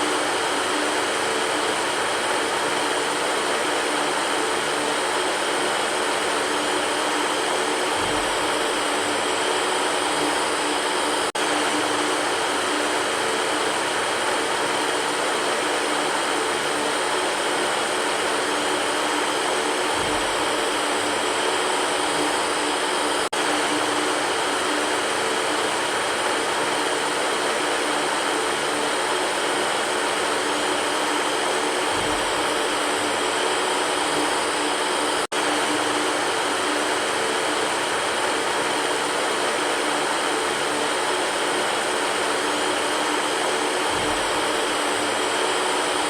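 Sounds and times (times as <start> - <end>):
electric fan rushing air: 0.0 - 46.0
fan hum: 0.0 - 46.0.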